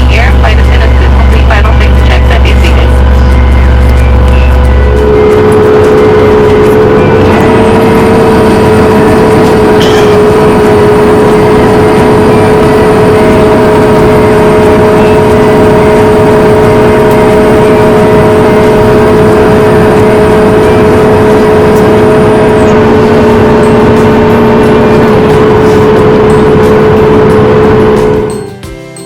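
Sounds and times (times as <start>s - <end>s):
jet engines heard from cabin: 0.0s - 28.4s.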